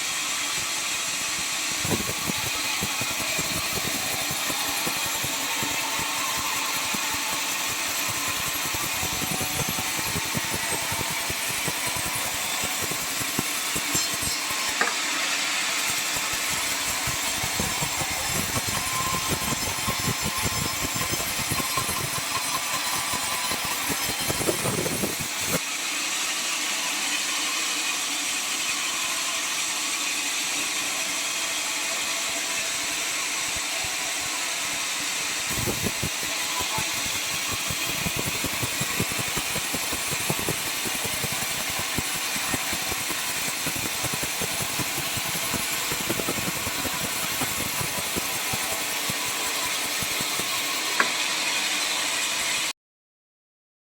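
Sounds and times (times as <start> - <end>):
circular saw running: 0.0 - 52.7
saw cutting log rattly noise: 1.0 - 25.6, 32.3 - 51.8.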